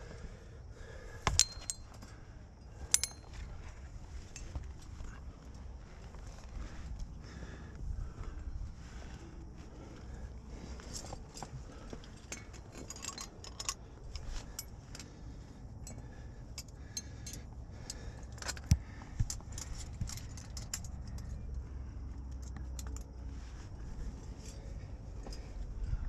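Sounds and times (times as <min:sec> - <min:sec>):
carabiners clinking: 0:00.8 - 0:07.6, 0:08.2 - 0:26.0.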